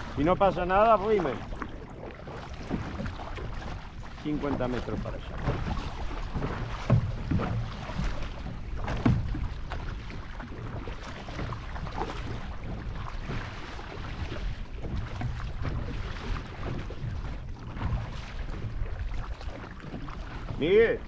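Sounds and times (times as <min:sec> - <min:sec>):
paddle strokes splashing: 0:00.0 - 0:21.0
water washing along hull: 0:00.0 - 0:21.0.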